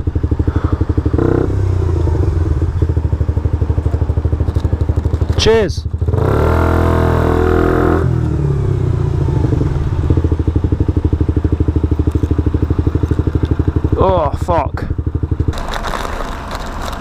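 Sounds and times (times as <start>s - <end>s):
motorcycle engine idling: 0.0s - 6.8s, 7.9s - 17.0s
motorcycle engine revving: 0.0s - 17.0s.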